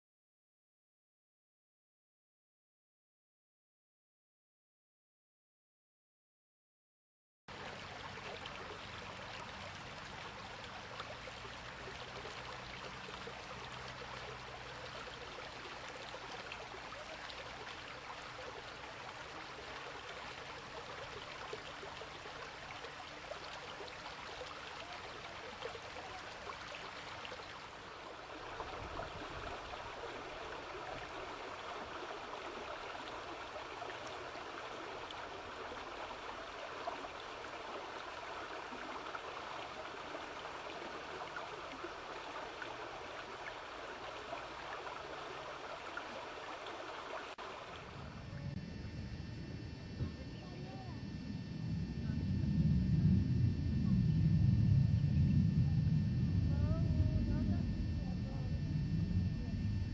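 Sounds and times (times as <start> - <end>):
water flowing in a stream: 7.5 - 56.5.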